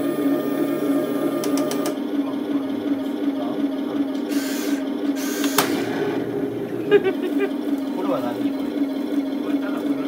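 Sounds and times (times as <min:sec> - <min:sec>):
model tank engine idle hum: 0:00.0 - 0:10.0.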